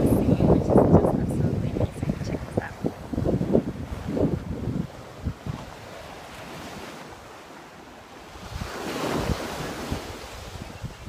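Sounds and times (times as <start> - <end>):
wind buffeting microphone: 0.0 - 7.6, 8.2 - 11.0
ocean surf on sand: 0.0 - 11.0.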